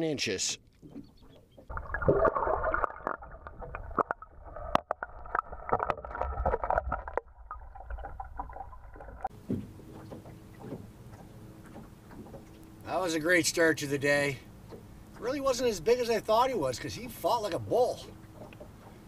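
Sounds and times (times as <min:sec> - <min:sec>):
underwater sloshing and bubbling: 0:00.6 - 0:19.0.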